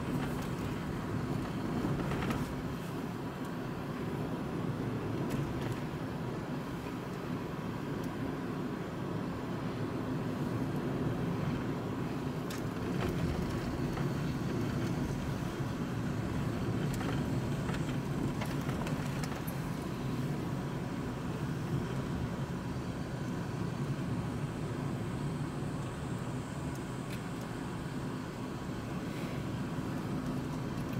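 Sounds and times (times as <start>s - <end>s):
tyre and road noise: 0.0s - 30.9s.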